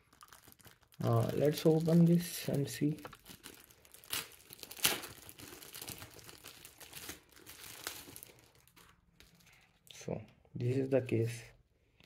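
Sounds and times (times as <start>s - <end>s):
plastic pouch crinkling: 0.0s - 9.9s.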